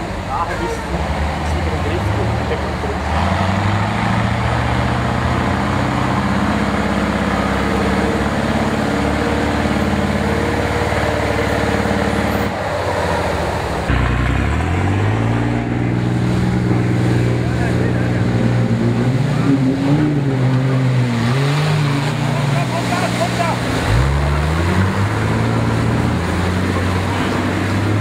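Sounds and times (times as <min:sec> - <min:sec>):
truck diesel engine revving: 0:00.0 - 0:28.0.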